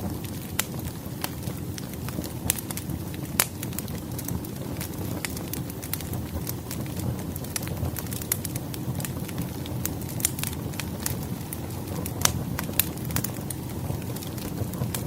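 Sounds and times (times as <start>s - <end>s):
campfire crackling: 0.0s - 15.0s
low rumble of burning: 0.0s - 15.0s
sharp pops and snaps: 0.2s - 15.0s.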